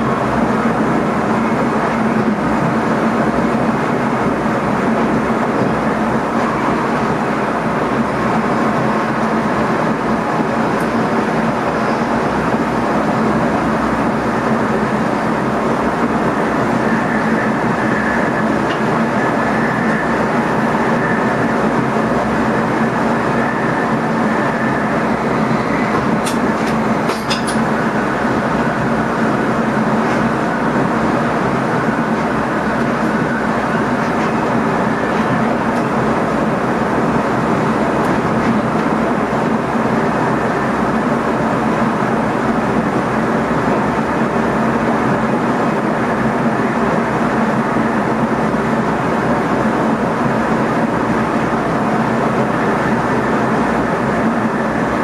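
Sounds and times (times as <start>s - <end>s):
air noise: 0.0s - 55.0s
train wheels rumbling on rail: 0.0s - 55.0s.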